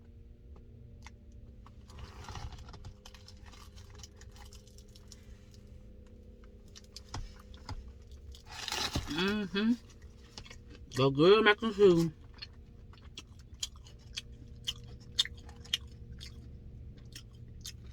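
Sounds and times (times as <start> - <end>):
low steady hum: 0.0 - 17.9
close-up chewing and mouth sounds: 0.5 - 17.9.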